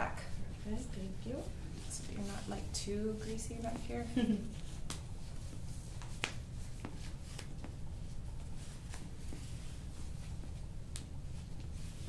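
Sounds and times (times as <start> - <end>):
steady low hum: 0.0 - 12.0
cloth rustling: 0.2 - 12.0.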